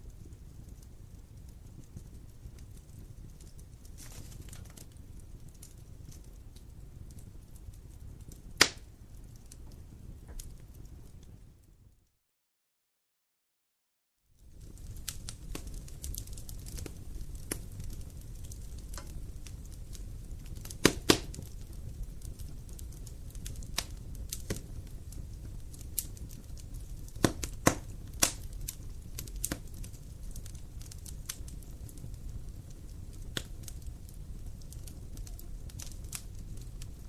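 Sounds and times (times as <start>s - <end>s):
wood fire crackling and popping: 0.0s - 12.1s, 14.3s - 37.0s.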